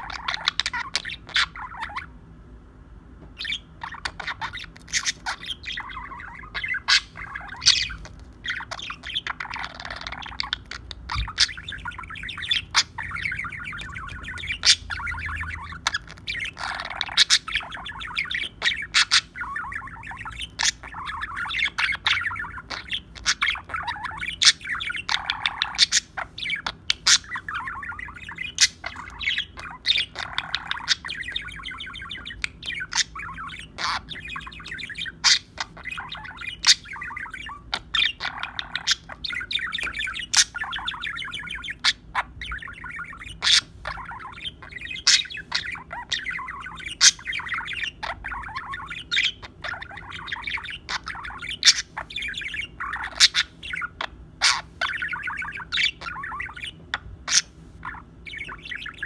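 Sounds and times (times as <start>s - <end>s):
budgerigar chattering warble: 0.0s - 2.1s, 3.4s - 59.0s.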